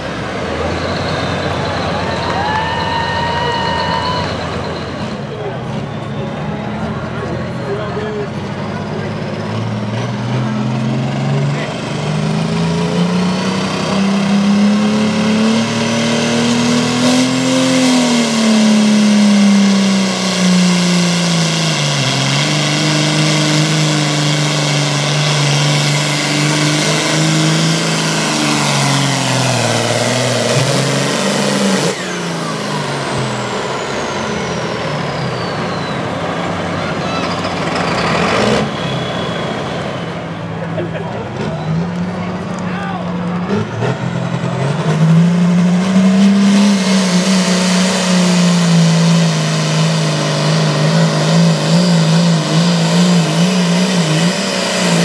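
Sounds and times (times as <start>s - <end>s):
tractor diesel engine at full power: 0.0s - 55.0s.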